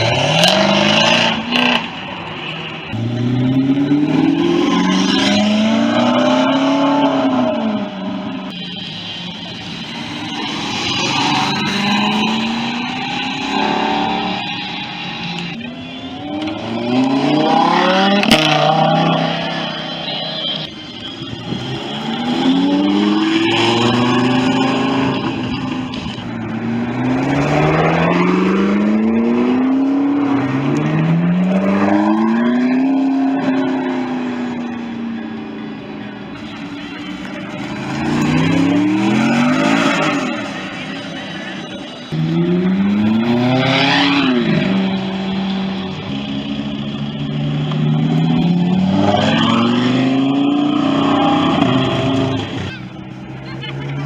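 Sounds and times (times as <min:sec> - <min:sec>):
car engine accelerating hard: 0:00.0 - 0:08.5, 0:09.5 - 0:54.0.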